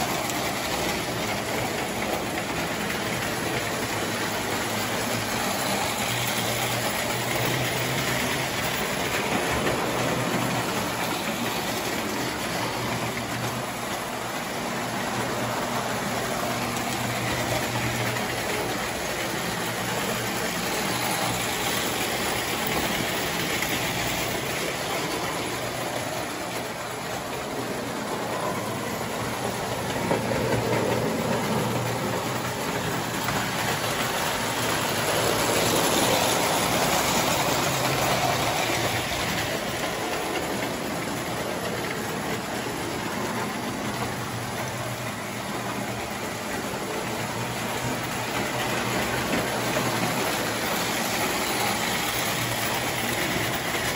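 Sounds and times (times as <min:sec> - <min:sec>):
toy trains rolling on track: 0:00.0 - 0:53.9.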